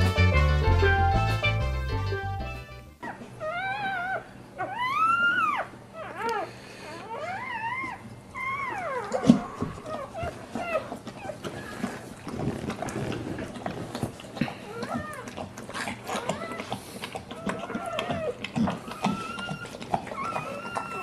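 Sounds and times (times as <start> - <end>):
puppies whining: 3.0 - 21.0.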